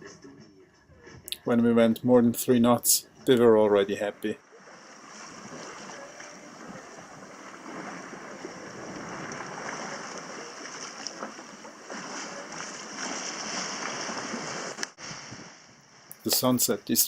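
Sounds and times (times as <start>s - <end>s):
water rushing along boat hull: 2.2s - 17.0s.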